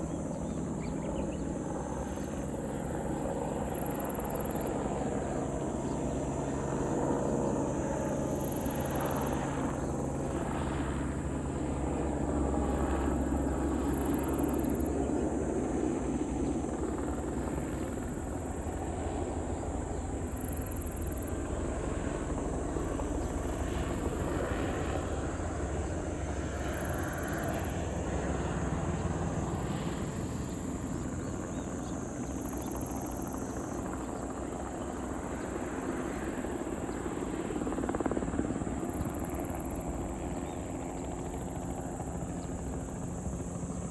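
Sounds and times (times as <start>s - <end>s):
helicopter rotor and engine: 0.0s - 43.9s.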